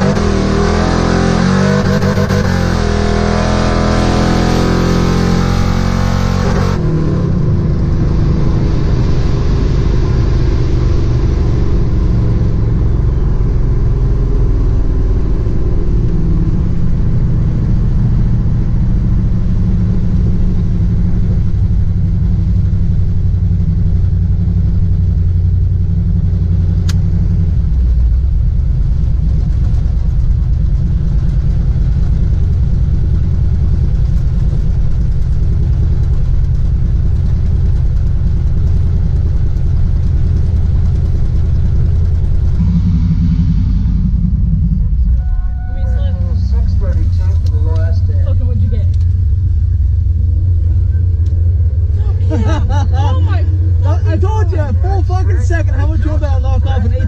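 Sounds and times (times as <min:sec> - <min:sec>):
drag car engine roaring: 0:00.0 - 0:57.0.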